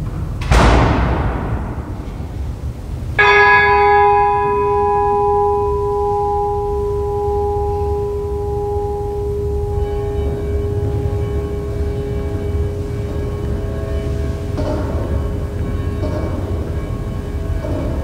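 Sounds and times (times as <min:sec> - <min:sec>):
faint steady tones: 0:02.3 - 0:18.0
bell ringing: 0:03.2 - 0:18.0.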